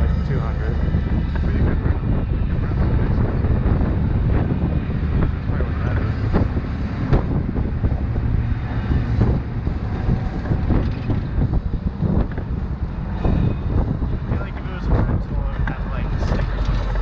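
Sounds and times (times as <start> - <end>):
low rumble: 0.0 - 17.0
wind buffeting microphone: 0.0 - 17.0.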